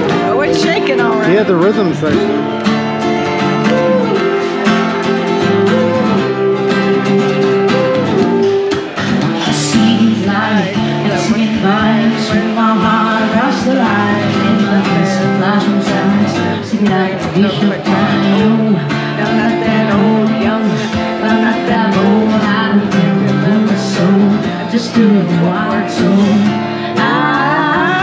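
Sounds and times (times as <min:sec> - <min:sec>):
woman singing into a microphone: 0:00.0 - 0:01.4, 0:03.6 - 0:28.0
acoustic guitar: 0:00.0 - 0:28.0.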